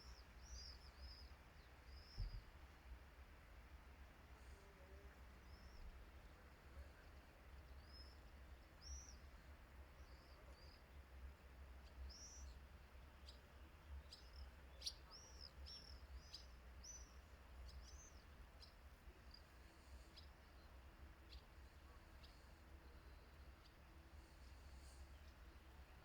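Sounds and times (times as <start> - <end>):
faint bird chirps: 0.0 - 2.6, 4.4 - 26.0.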